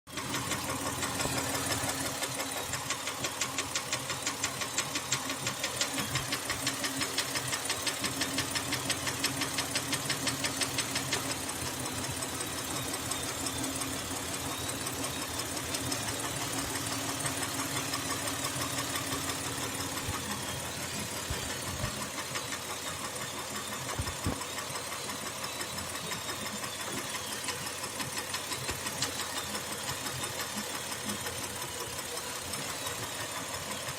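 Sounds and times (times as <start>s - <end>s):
car engine knocking: 0.1s - 33.9s.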